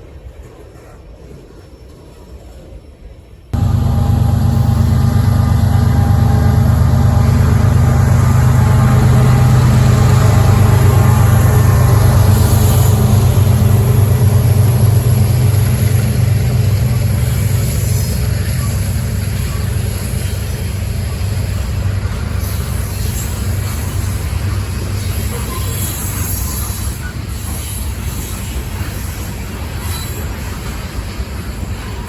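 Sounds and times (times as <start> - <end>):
diesel locomotive engines running: 3.6 - 32.0.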